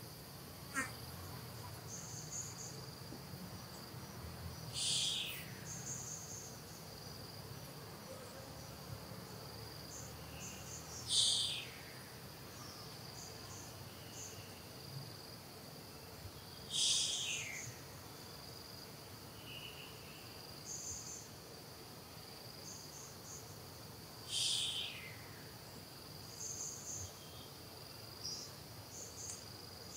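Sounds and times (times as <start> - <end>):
insects droning: 0.0 - 29.9.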